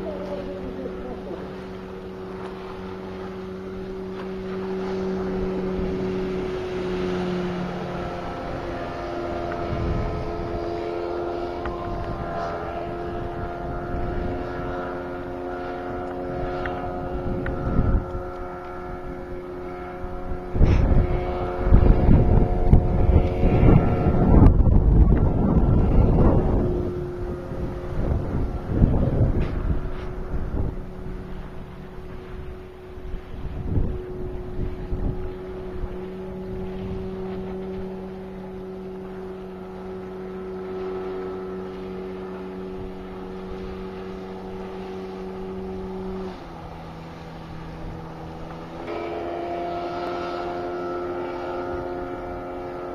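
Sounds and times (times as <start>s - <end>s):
outboard engine drone: 0.0s - 52.9s
wind gusts on microphone: 0.0s - 52.9s.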